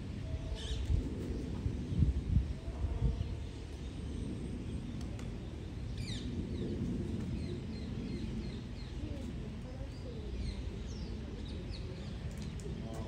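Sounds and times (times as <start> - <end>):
low outdoor rumble: 0.0 - 13.0
sparrows chirping: 0.2 - 13.0.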